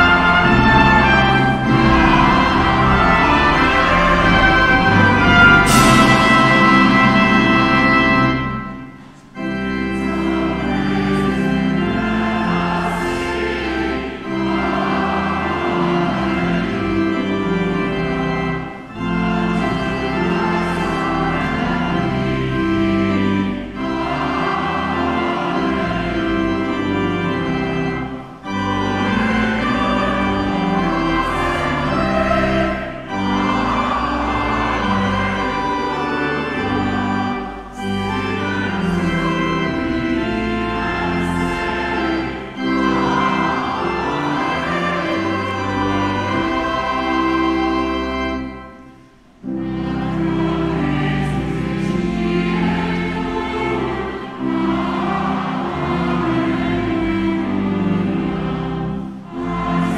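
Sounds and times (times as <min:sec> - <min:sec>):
church organ playing: 0:00.0 - 0:59.9.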